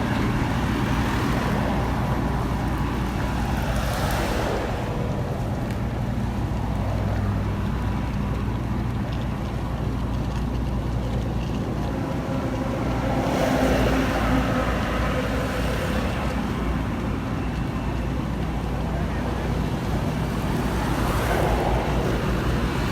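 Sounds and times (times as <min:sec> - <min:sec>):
road noise: 0:00.0 - 0:22.9
vehicle engine hum: 0:00.0 - 0:22.9.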